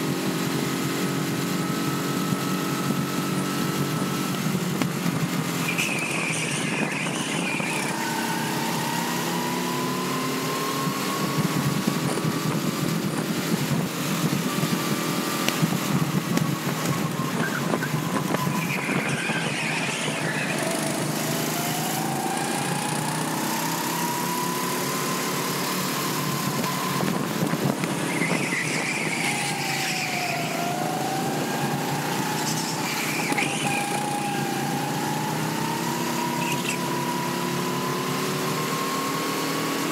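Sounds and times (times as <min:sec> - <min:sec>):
rushing wind noise: 0:00.0 - 0:38.6
go-kart engine revving: 0:00.0 - 0:39.9.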